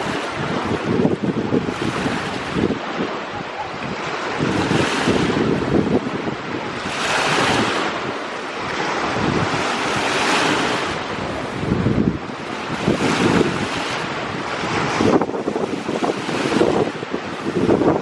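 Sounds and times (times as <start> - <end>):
waves breaking on shore: 0.0 - 18.0
wind gusting on microphone: 0.0 - 18.0.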